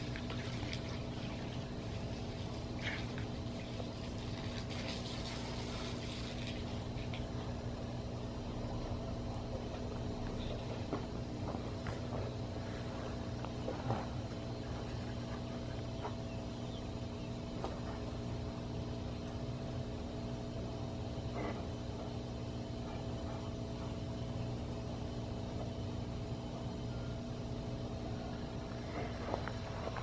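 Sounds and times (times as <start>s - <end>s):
machine hum: 0.0s - 30.0s.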